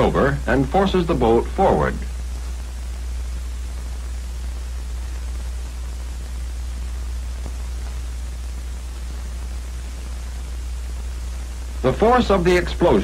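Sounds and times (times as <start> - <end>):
film soundtrack hiss: 0.0 - 13.0
low hum: 0.0 - 13.0.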